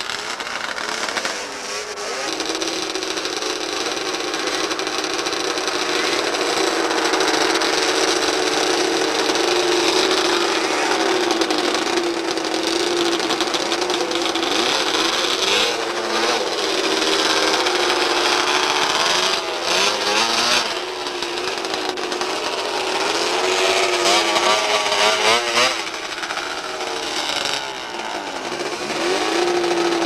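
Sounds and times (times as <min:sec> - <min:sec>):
snowmobile engines revving: 0:00.0 - 0:30.0.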